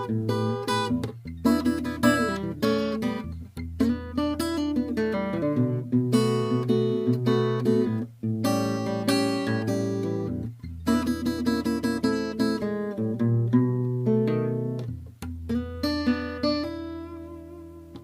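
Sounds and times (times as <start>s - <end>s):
acoustic guitar chords and notes: 0.0s - 18.0s.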